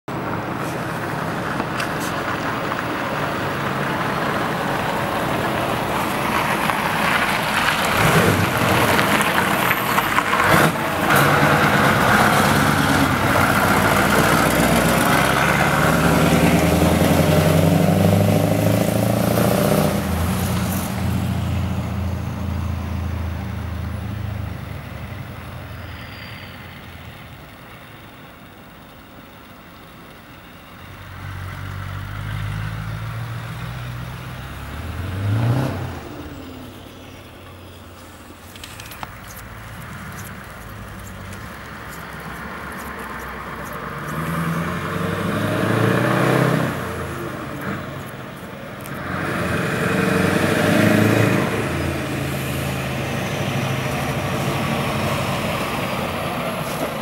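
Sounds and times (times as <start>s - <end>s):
diesel truck engine passing: 0.1s - 57.0s.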